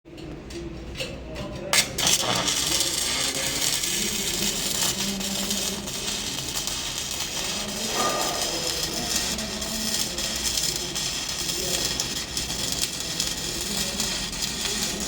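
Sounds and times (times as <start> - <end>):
welding arc crackling hiss: 1.8 - 15.0
welding arc striking clicks: 1.8 - 15.0.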